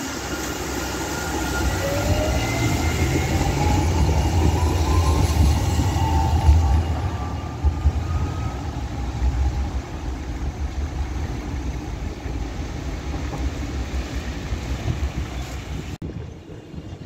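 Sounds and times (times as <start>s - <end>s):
tram rumbling on track: 0.0s - 17.0s
wind buffeting microphone: 1.7s - 17.0s.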